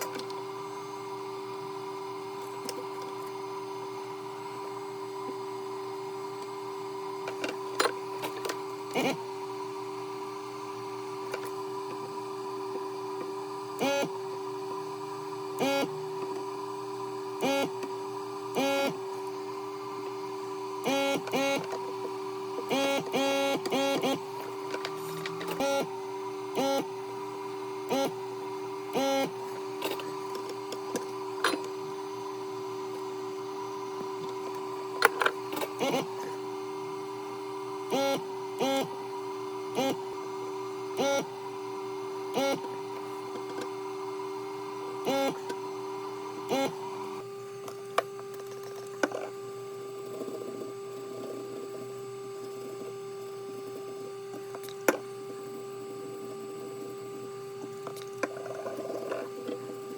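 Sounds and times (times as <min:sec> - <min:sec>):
mechanical whirring bursts: 0:00.0 - 0:48.0
machine humming: 0:00.0 - 0:59.9.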